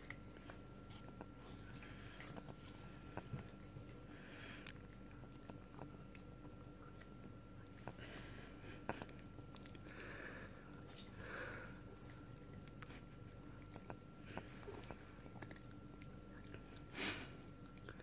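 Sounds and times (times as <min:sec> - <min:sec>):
dog chewing and licking: 0:00.0 - 0:18.0.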